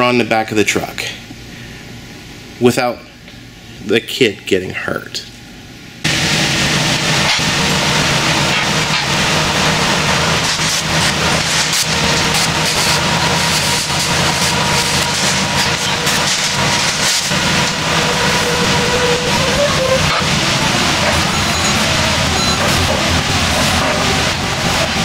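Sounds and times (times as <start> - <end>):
low machinery hum: 0.0 - 25.0.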